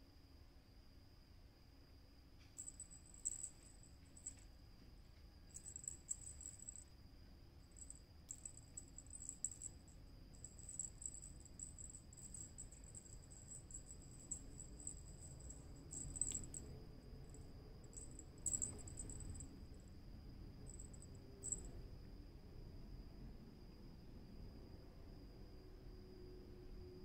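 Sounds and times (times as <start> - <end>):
crickets chirping: 0.7 - 27.0.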